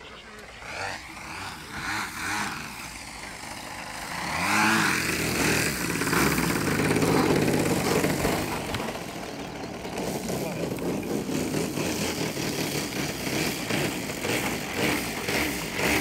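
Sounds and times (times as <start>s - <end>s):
model plane engine: 0.0s - 16.0s.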